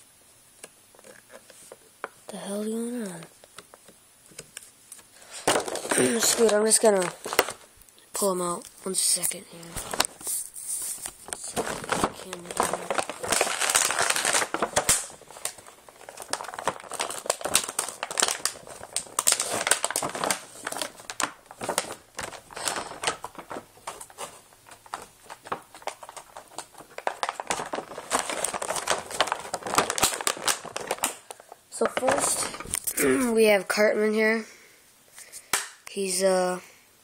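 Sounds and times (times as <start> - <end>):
packaging crinkling and rustling: 0.6 - 33.0.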